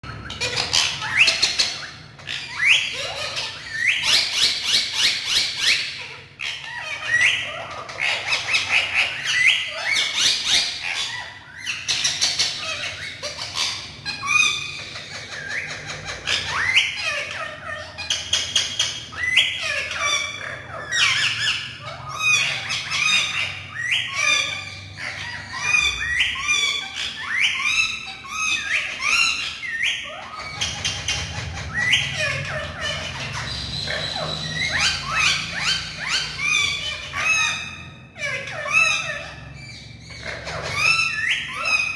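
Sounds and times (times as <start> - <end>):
parrots squawking and calling: 0.0 - 41.9.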